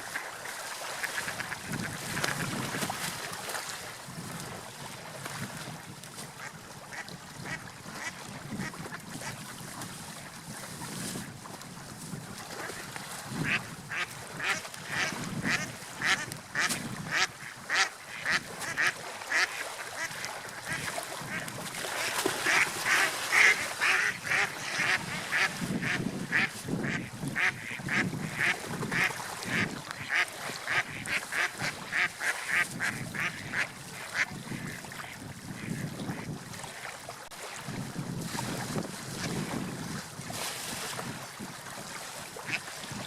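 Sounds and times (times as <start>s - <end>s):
surf: 0.0s - 43.0s
wind: 0.0s - 43.0s.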